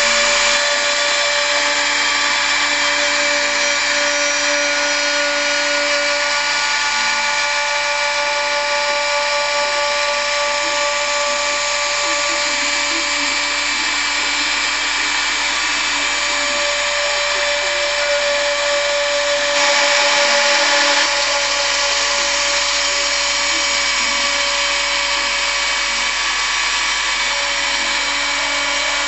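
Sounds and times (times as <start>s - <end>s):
router spindle whine: 0.0s - 29.0s.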